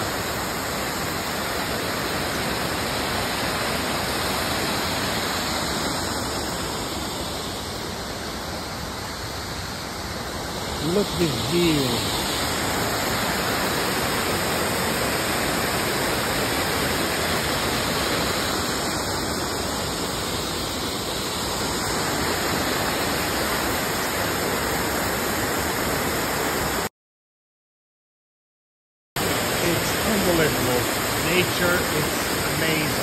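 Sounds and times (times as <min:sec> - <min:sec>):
waterfall rushing: 0:00.0 - 0:26.9, 0:29.2 - 0:33.0.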